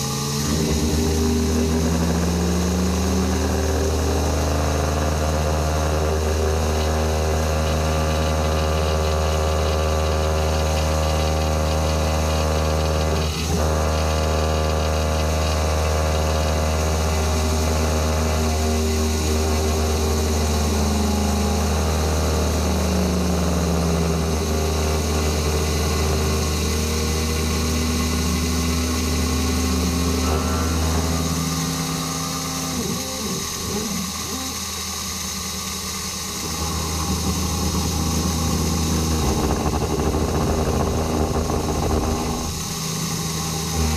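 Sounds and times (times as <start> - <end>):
feed drives whining: 0.0 - 43.9
milling machine motor hum: 0.0 - 43.9.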